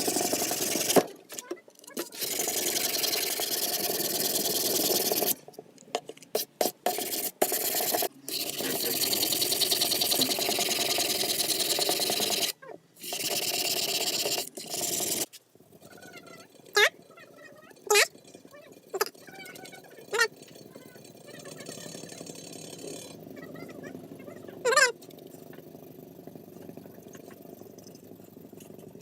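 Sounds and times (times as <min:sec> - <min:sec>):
abrasive tool rasping: 0:00.0 - 0:05.5, 0:06.2 - 0:29.0.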